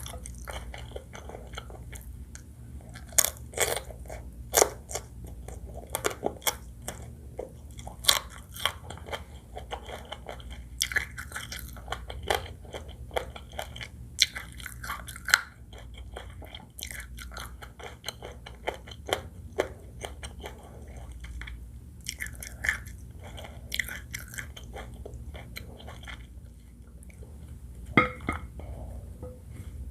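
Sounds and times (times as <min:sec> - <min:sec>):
chewing and crunching food: 0:00.0 - 0:29.2
low steady hum: 0:00.0 - 0:29.9.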